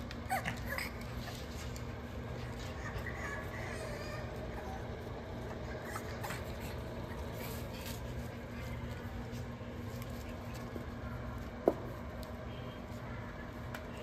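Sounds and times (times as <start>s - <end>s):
puppy paws pattering on pads: 0.0s - 14.0s
steady low hum: 0.0s - 14.0s.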